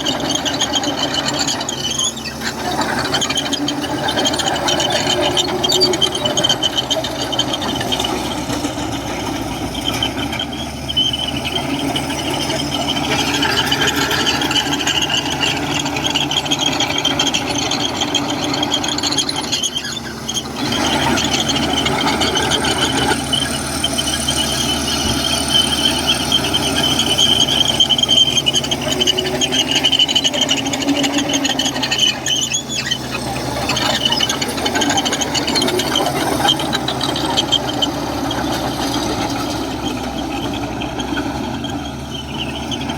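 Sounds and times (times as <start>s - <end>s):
bulldozer diesel engine: 0.0s - 42.9s
steel tracks squealing: 0.0s - 42.9s.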